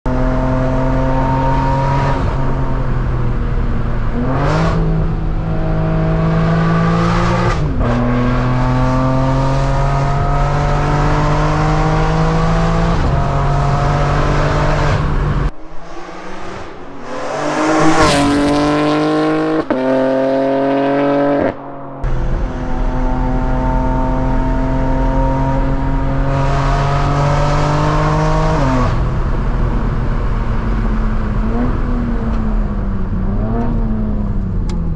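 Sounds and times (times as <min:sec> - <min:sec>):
car engine pulling hard: 0:00.1 - 0:34.9
car rushing past: 0:00.2 - 0:32.2.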